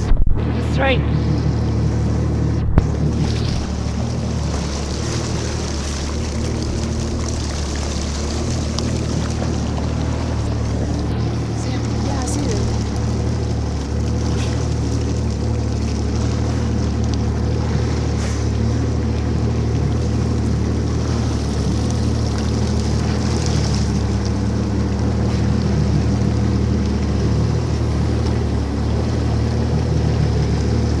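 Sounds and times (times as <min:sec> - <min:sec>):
jet ski engine running: 0:00.0 - 0:31.0
rushing water: 0:00.0 - 0:31.0.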